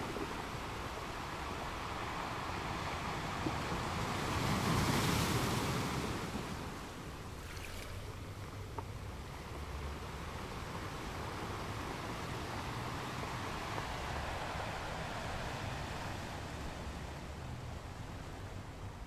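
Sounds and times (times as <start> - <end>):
ocean waves washing: 0.0 - 19.0
wind: 0.0 - 19.0.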